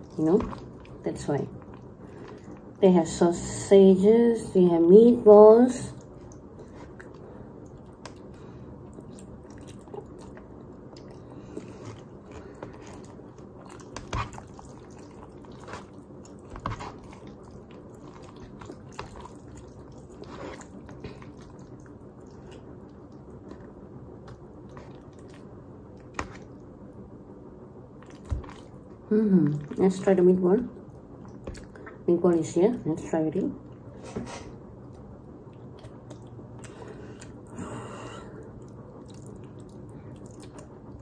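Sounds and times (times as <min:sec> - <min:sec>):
person chewing food: 0:00.0 - 0:02.8, 0:06.0 - 0:26.7, 0:28.0 - 0:29.8, 0:30.8 - 0:32.0, 0:34.5 - 0:41.0
steady low hum: 0:00.0 - 0:41.0.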